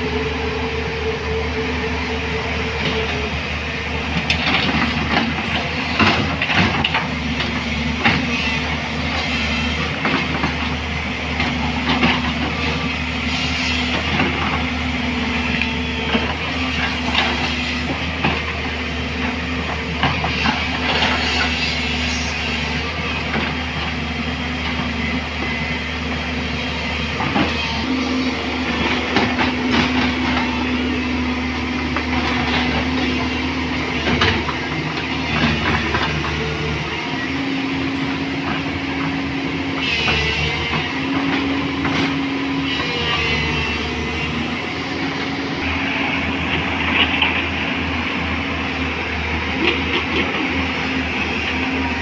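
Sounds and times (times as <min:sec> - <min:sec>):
diesel engine running under load: 0:00.0 - 0:52.0.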